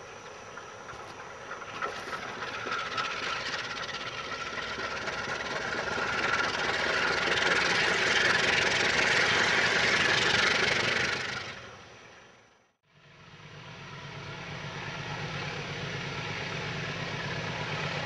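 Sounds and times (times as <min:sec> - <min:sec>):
diesel locomotives approaching: 0:00.0 - 0:18.0.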